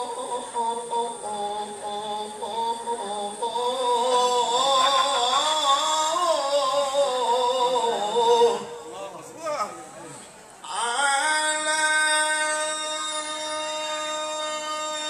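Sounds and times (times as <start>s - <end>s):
man chanting into microphone: 0.0s - 9.0s, 10.7s - 15.0s.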